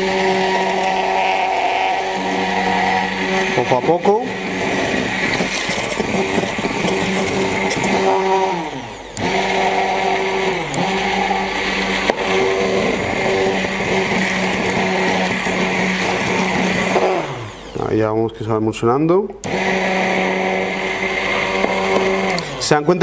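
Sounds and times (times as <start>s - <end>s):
immersion blender motor running: 0.0s - 18.0s, 19.4s - 23.0s.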